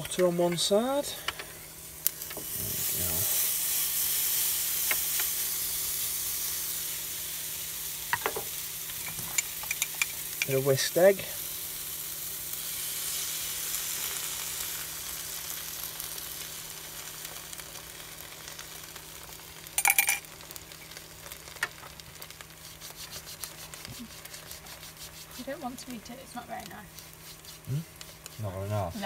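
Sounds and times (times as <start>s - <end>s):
egg and bread sizzling: 0.0s - 29.0s.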